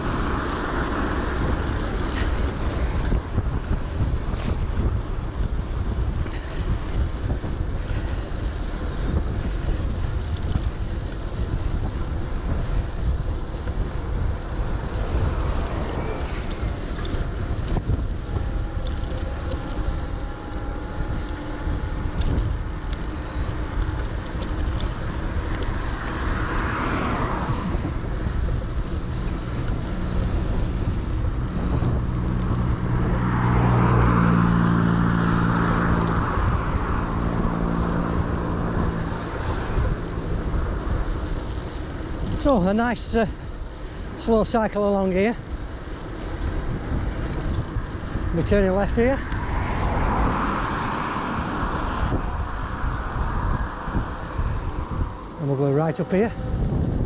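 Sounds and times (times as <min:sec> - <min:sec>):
vehicle engine hum: 0:00.0 - 0:57.0
wind buffeting microphone: 0:00.0 - 0:57.0.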